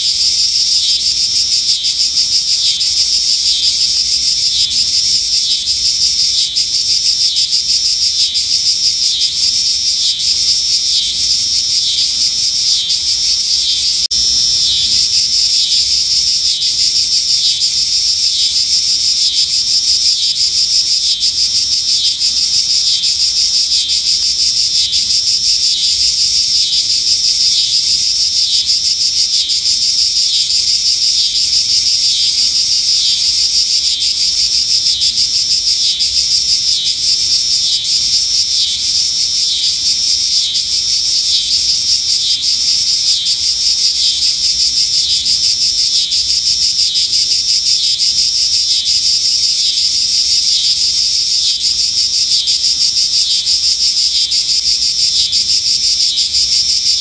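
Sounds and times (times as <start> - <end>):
cicada buzzing: 0.0 - 57.0.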